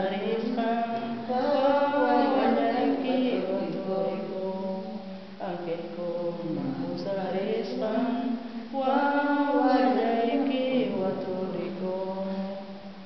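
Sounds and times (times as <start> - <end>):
woman singing a slow song: 0.0 - 13.0.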